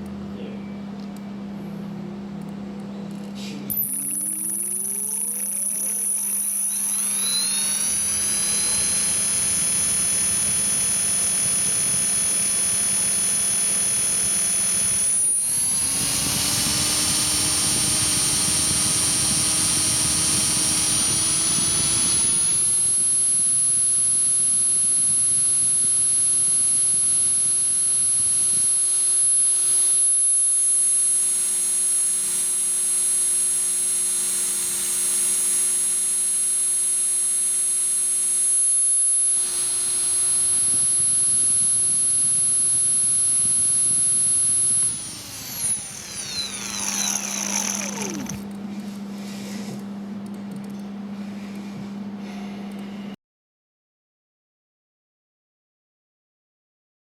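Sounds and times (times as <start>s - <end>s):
electric motor high whine: 3.7s - 49.6s
motor grinding noise: 3.7s - 49.8s.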